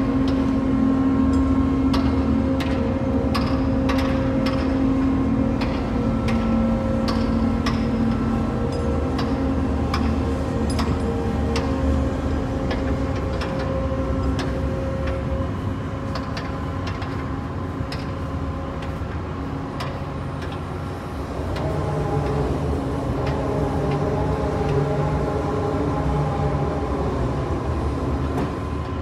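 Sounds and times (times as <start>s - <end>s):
crane machinery humming: 0.0s - 29.0s.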